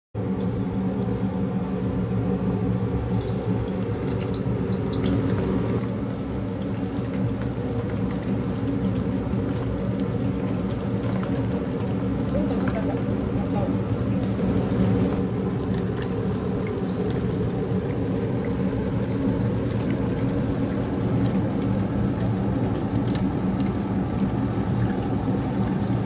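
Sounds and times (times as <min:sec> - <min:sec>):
gas burners rumbling: 0:00.2 - 0:26.0
water boiling with crackles: 0:00.2 - 0:26.0.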